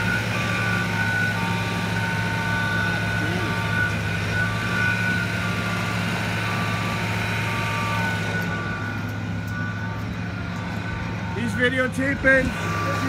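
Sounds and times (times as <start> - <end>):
engine running: 0.0 - 13.0
reversing alarm beeping: 0.0 - 13.0.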